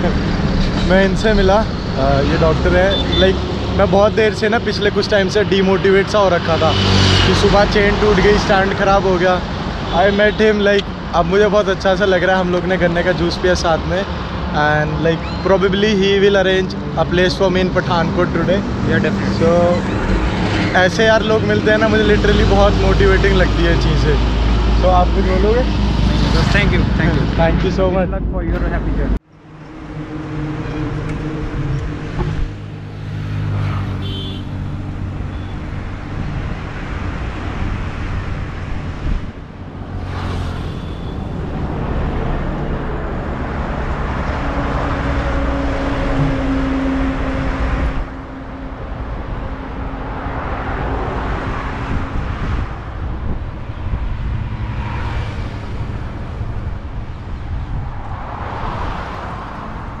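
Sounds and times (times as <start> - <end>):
vehicles driving past: 0.0 - 60.0.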